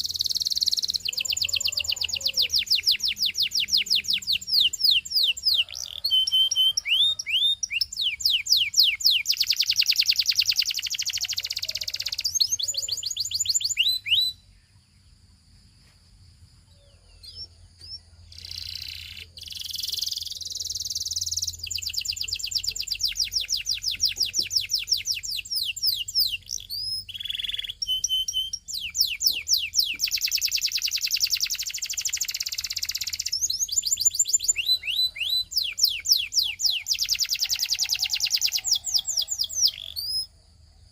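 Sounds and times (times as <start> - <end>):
canary singing trills: 0.0 - 15.2, 16.7 - 40.9.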